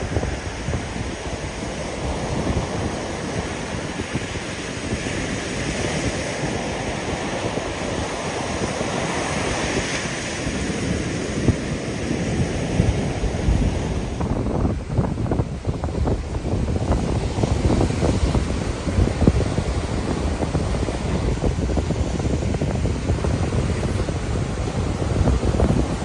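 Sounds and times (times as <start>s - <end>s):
surf washing up a beach: 0.0s - 26.0s
wind buffeting microphone: 0.0s - 26.0s.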